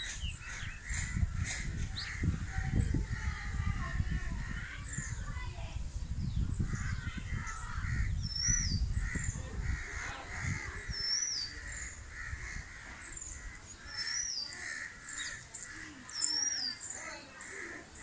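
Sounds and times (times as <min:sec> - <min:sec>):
wind rumble on microphone: 0:00.0 - 0:14.8
birds calling: 0:00.0 - 0:18.0.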